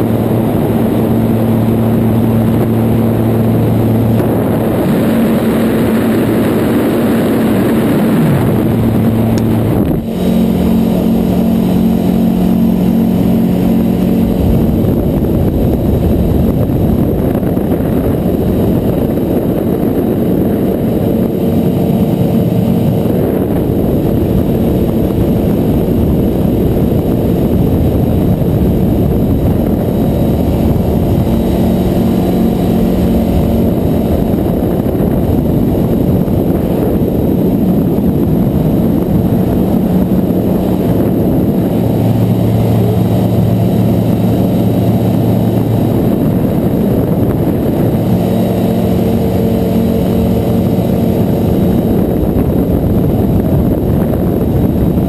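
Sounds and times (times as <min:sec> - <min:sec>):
light aircraft engine and propeller: 0:00.0 - 0:55.0
wind rush over microphone: 0:00.0 - 0:55.0.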